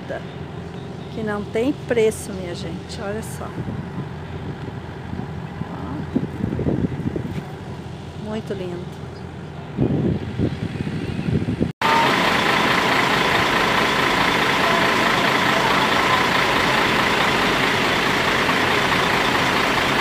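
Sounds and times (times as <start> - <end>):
loud engine running: 0.0 - 20.0.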